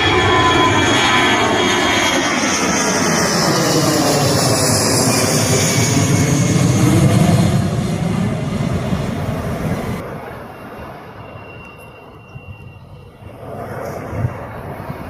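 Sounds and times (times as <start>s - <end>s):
jet airliner engines roaring: 0.0s - 15.0s.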